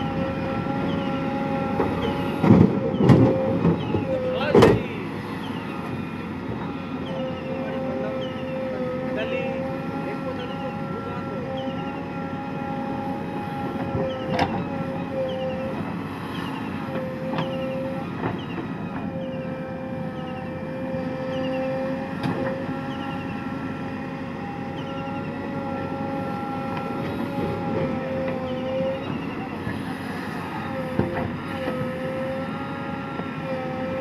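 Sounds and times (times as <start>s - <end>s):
backhoe loader whine: 0.0s - 34.0s.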